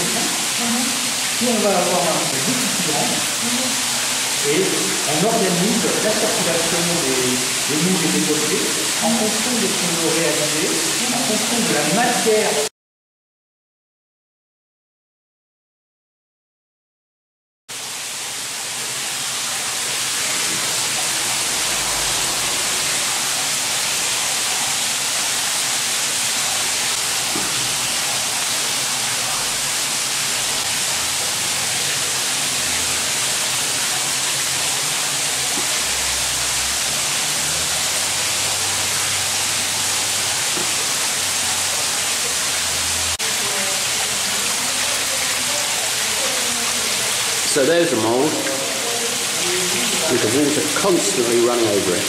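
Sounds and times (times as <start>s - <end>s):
water cascading and trickling: 0.0s - 12.7s, 17.7s - 52.0s.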